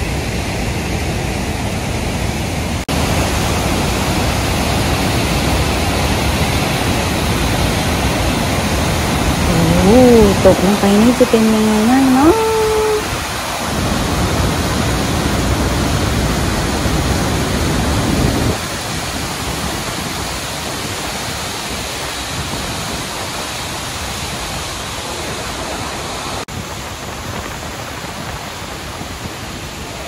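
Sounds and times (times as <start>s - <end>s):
rush of falling water: 0.0s - 30.0s.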